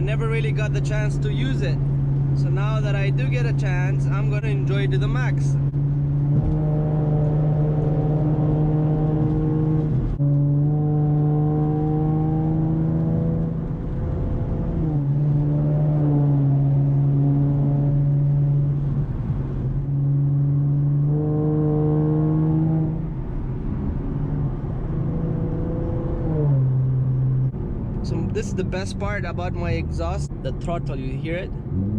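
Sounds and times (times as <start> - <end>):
car engine and exhaust droning: 0.0 - 31.9.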